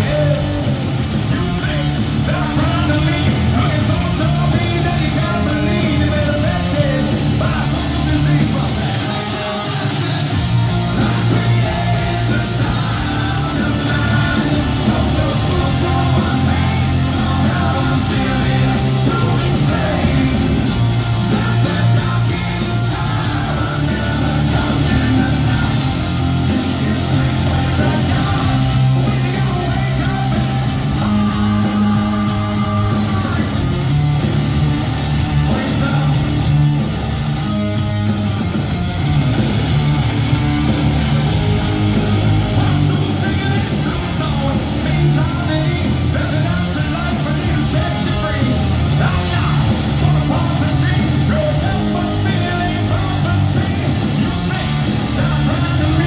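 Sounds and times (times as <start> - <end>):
person singing: 0.0 - 33.9, 41.4 - 56.0
live hard rock band: 0.0 - 56.0.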